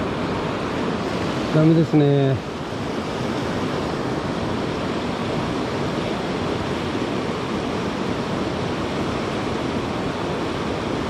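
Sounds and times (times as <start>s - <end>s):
mountain river rushing: 0.0s - 11.0s.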